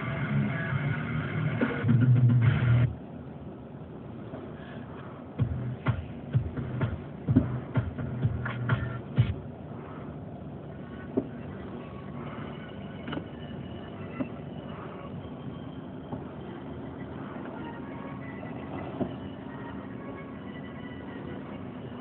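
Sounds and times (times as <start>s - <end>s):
low hum in car: 0.0s - 22.0s.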